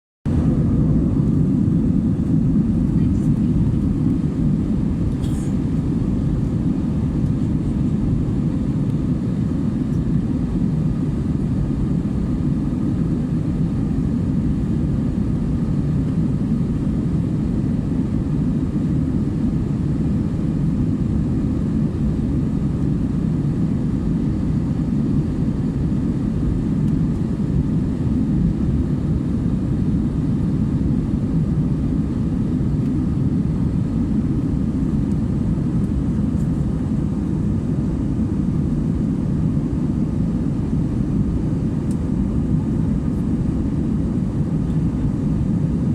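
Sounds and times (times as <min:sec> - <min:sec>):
airliner cabin engine rumble: 0:00.3 - 0:45.9.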